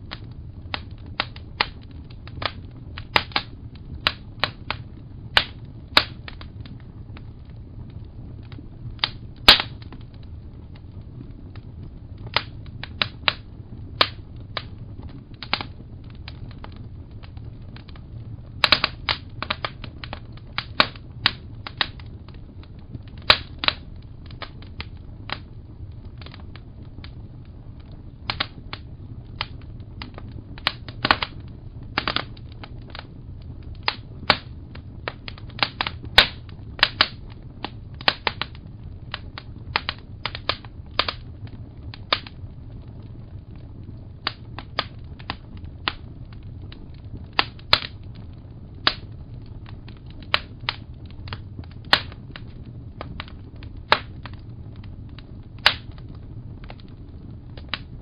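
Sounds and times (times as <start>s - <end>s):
low steady rumble: 0.0s - 58.0s
wood fire crackling: 0.0s - 58.0s.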